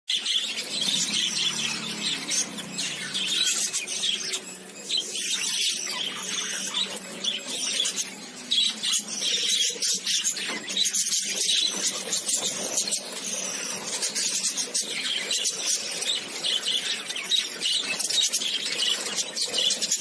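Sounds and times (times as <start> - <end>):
budgerigars chirping and chattering: 0.1 - 20.0.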